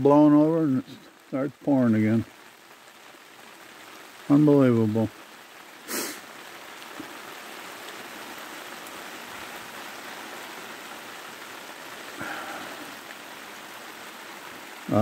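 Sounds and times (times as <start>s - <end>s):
rain pouring: 0.0s - 15.0s.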